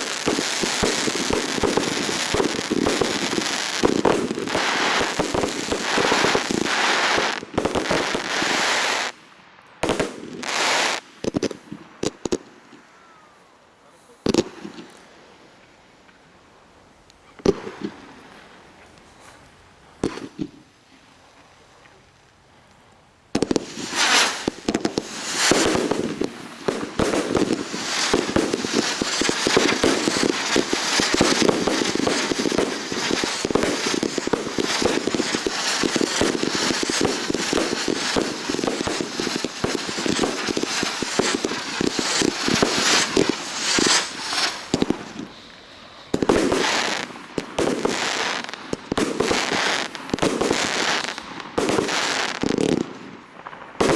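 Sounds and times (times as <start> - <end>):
fireworks bangs and crackling: 0.0 - 13.3, 14.1 - 15.0, 17.3 - 18.6, 20.0 - 20.7, 23.3 - 53.9.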